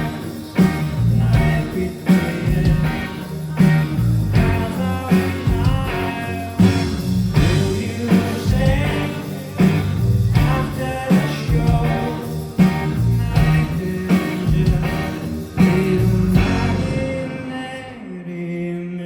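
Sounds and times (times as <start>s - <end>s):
person singing: 0.0s - 6.8s, 7.4s - 19.0s
live rock band playing: 0.0s - 17.7s.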